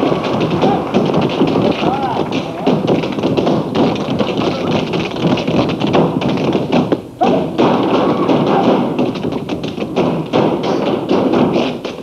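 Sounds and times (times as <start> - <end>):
tap dancing on stage floor: 0.0 - 12.0.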